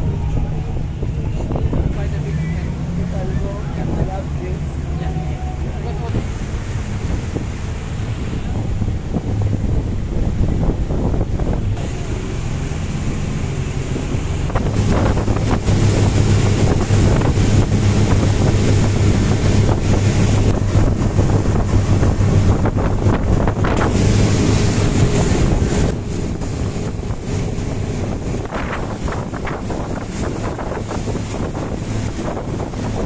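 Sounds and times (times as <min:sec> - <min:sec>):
speedboat engine humming: 0:00.0 - 0:33.0
water against hull: 0:00.0 - 0:33.0
wind buffeting microphone: 0:00.0 - 0:33.0.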